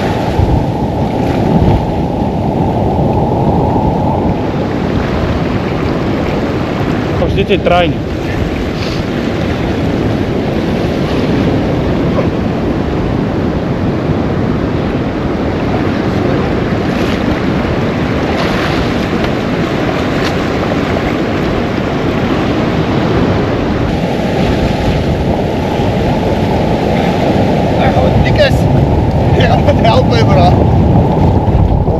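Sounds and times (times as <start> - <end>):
surf washing on shore: 0.0 - 31.9
wind rushing over microphone: 0.0 - 31.9.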